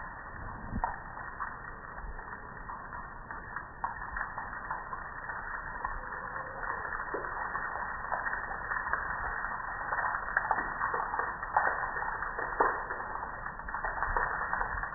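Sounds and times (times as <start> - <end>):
water dripping onto concrete: 0.0 - 14.9
water splats: 0.0 - 14.9.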